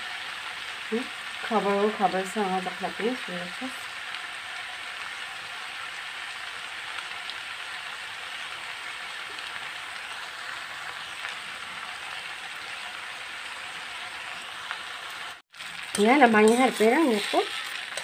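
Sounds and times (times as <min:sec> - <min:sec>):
noodles sizzling in a pan: 0:00.0 - 0:18.0.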